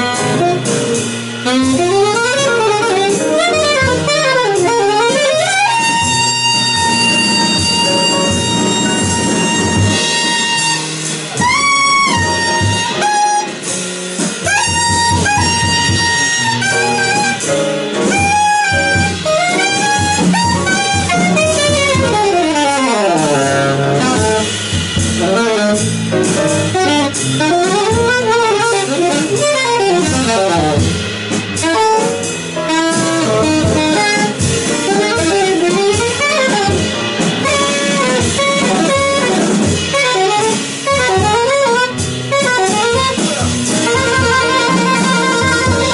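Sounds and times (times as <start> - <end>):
double bass: 0.0 - 45.9
drum kit: 0.0 - 45.9
saxophone playing: 0.0 - 45.9.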